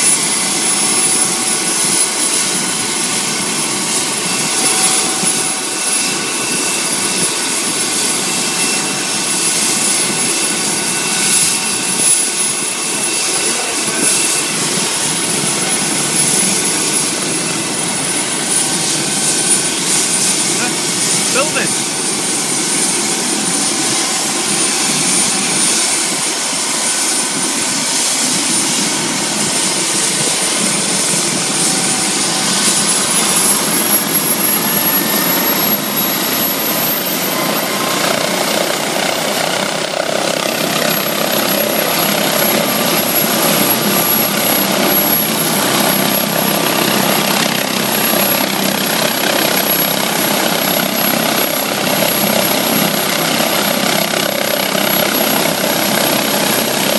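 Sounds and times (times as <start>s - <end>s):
helicopter rotor and turbine: 0.0s - 56.9s
high turbine whine: 0.0s - 56.9s.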